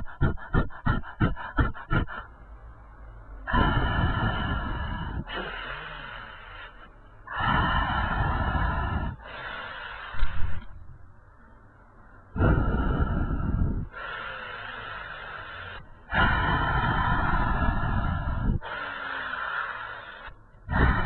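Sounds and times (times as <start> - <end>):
heavy breathing: 0.0 - 2.7, 3.3 - 21.0.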